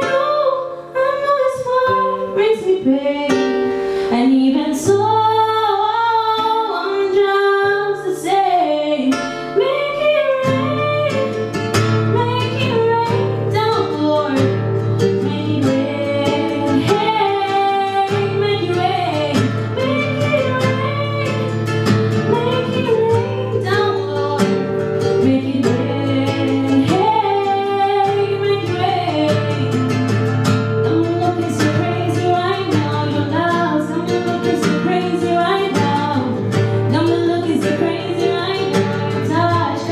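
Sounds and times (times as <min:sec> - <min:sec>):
guitar accompaniment: 0:00.0 - 0:39.9
woman singing: 0:00.0 - 0:39.9.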